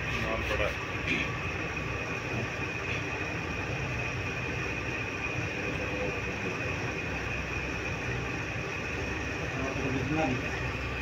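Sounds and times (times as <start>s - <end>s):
high-pitched whine: 0.0s - 11.0s
rumbling machine noise: 0.0s - 11.0s.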